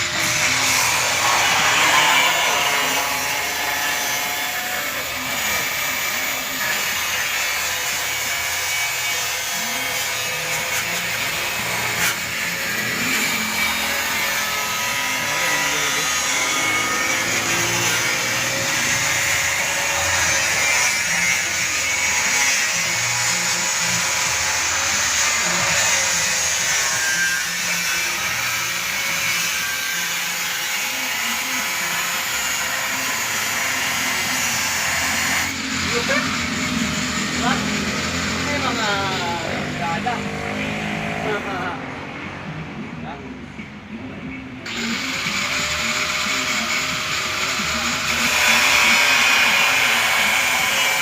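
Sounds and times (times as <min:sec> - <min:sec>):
power tool grinding: 0:00.0 - 0:41.5, 0:44.6 - 0:51.0.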